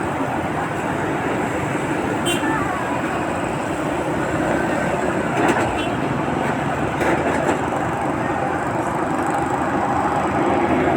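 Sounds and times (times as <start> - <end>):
busy road traffic: 0.0 - 10.9.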